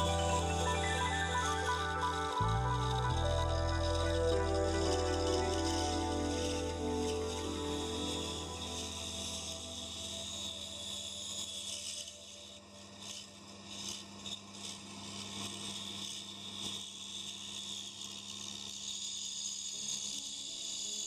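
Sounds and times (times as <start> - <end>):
band saw humming and whining: 0.0 - 21.0.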